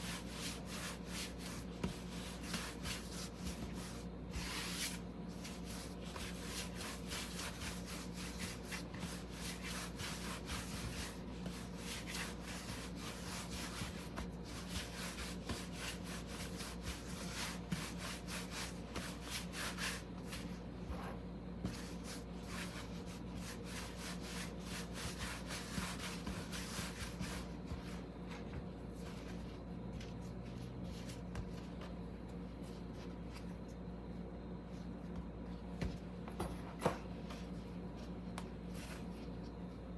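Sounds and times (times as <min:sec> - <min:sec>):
rolling pin rolling dough: 0:00.0 - 0:33.8.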